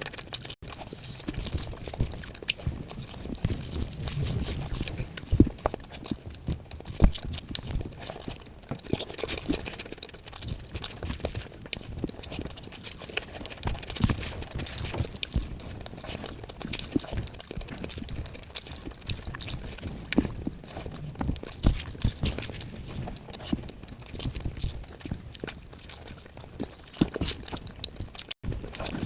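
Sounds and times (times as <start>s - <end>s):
wet chewing and mouth smacks: 0.0s - 29.0s.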